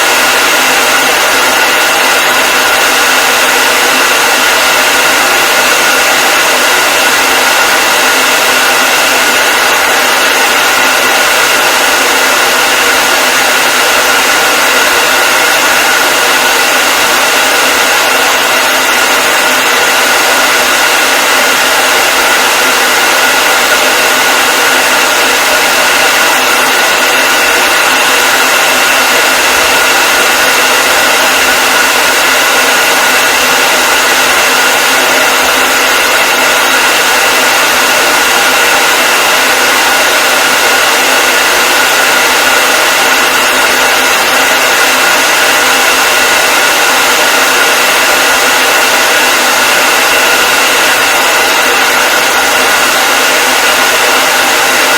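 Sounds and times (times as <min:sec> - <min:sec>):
hair dryer running: 0:00.0 - 0:54.9.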